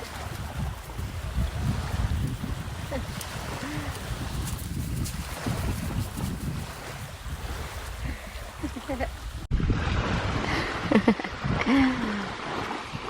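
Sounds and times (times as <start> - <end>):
surf at the shore: 0.0 - 13.0
wind rumbling on microphone: 0.0 - 13.0.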